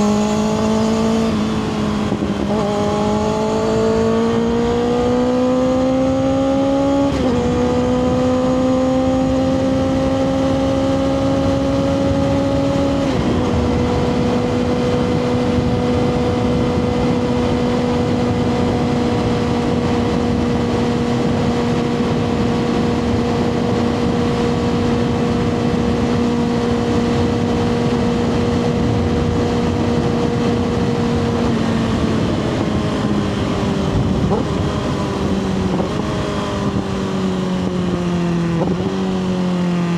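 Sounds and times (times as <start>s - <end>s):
wind rush: 0.0s - 39.2s
motorcycle engine accelerating: 0.0s - 39.9s.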